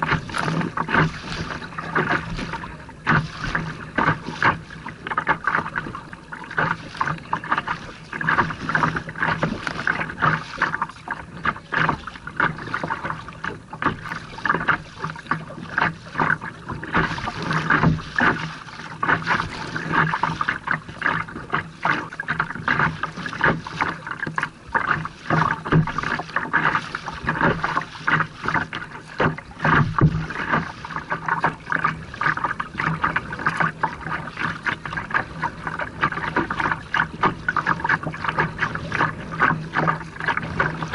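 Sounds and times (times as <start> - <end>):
water slapping against kayak hull: 0.0 - 40.9.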